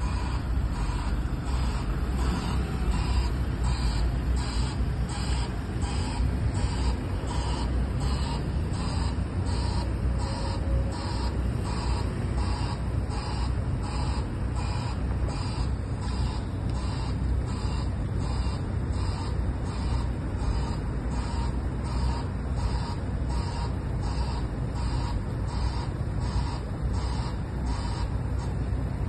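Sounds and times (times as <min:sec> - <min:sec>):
reversing alarm beeping: 0:00.0 - 0:28.7
low steady rumble: 0:00.0 - 0:29.0.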